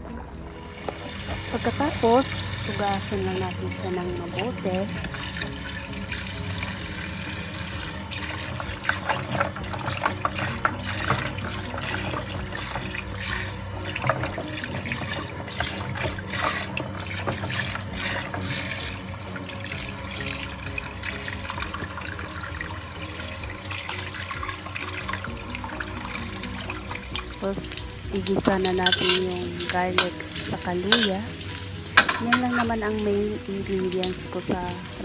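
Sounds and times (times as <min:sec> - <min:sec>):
tap water running into sink: 0:00.5 - 0:35.0
knocks and splashes: 0:00.6 - 0:35.0.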